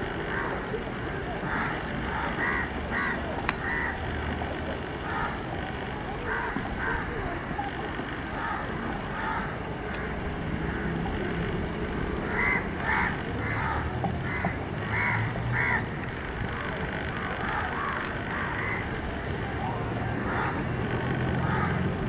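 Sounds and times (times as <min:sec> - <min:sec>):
bird calling: 0:00.0 - 0:22.0.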